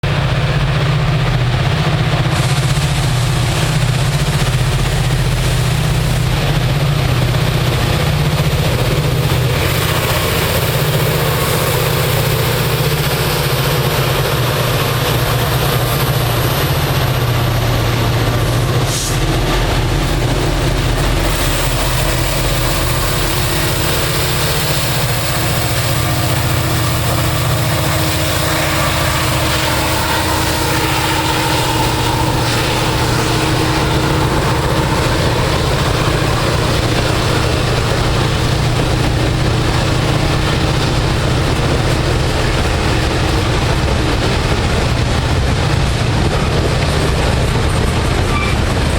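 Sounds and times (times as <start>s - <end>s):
freight locomotives engine rumble: 0.0s - 48.9s.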